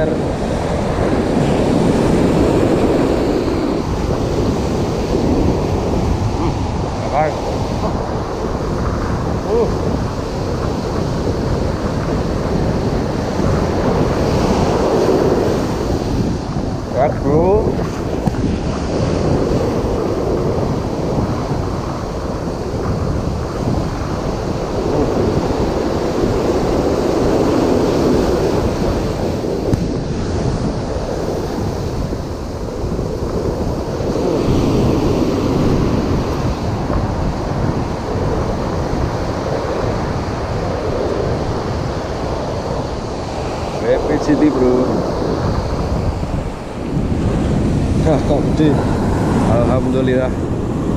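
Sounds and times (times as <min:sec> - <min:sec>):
surf breaking on beach: 0:00.0 - 0:50.9
wind buffeting microphone: 0:00.0 - 0:50.9.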